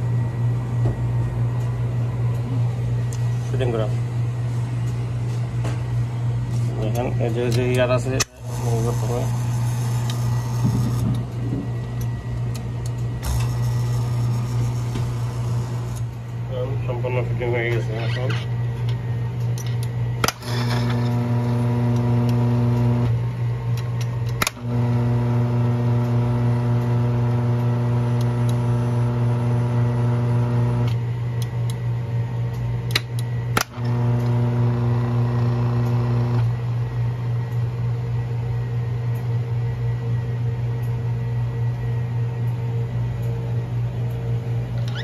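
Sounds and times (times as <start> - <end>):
grinder motor hum and whine: 0.0 - 45.0.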